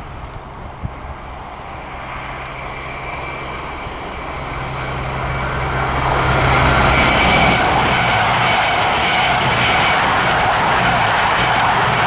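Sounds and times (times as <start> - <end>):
diesel train approaching: 0.0 - 12.0.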